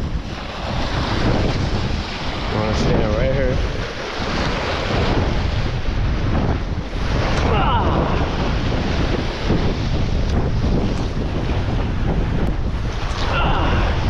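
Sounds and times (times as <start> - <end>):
rough surf rushing: 0.0 - 14.0
wind buffeting microphone: 0.0 - 14.0.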